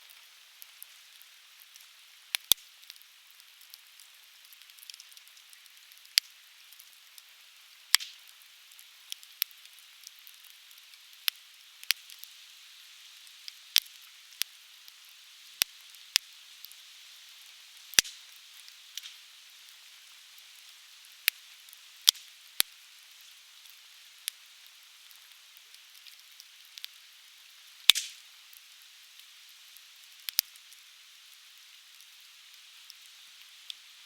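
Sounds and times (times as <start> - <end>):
firewood crackling: 0.0 - 12.4, 17.8 - 27.0, 27.7 - 33.9.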